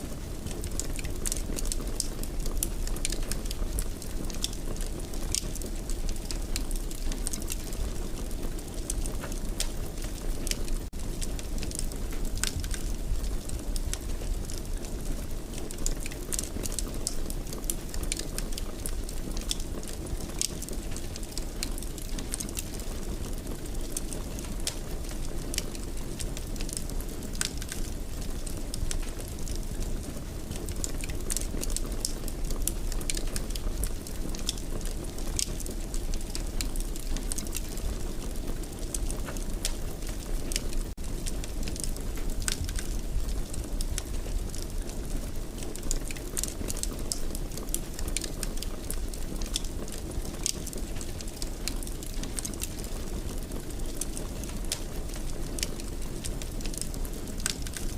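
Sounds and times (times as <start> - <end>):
fire crackling in a fireplace: 0.0 - 57.9.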